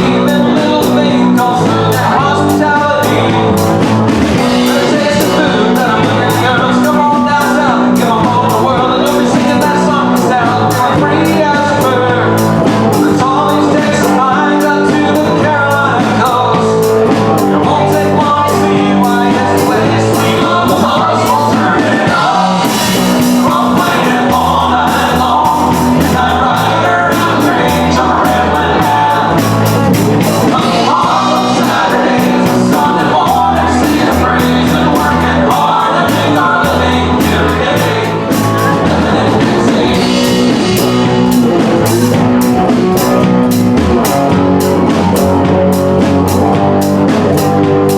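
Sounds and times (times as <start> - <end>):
lead singer: 0.0 - 47.9
live country-rock band: 0.0 - 47.9.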